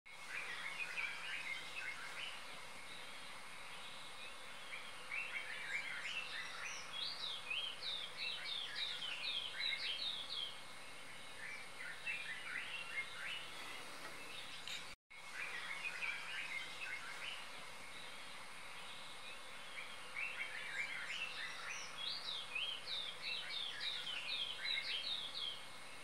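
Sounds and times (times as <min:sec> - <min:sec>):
birds twittering: 0:00.1 - 0:26.0.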